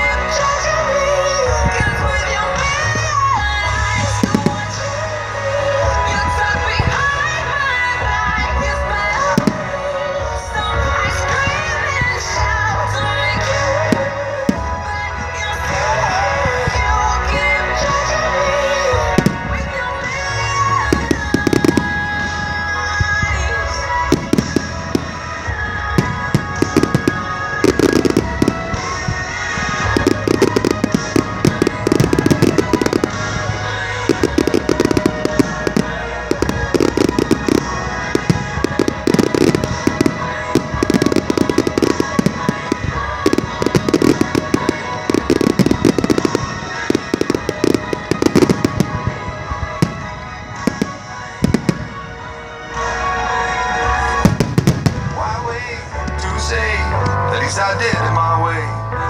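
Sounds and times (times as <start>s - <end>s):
fireworks popping and crackling: 0.0s - 58.3s
music soundtrack: 0.0s - 59.0s.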